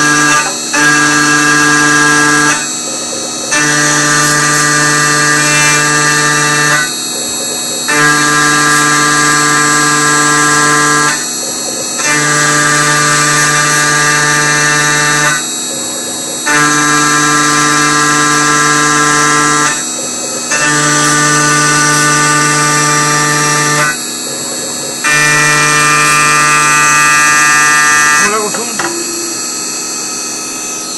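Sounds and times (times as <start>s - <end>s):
high spindle whine: 0.0s - 30.9s
pitched machine hum: 0.0s - 30.9s.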